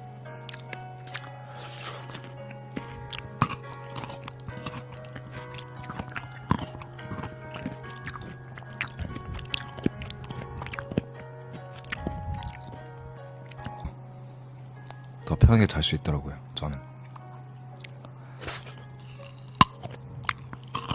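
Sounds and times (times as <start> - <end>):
background music: 0.0 - 20.9
person chewing crunchy food: 0.4 - 14.0, 17.0 - 20.9.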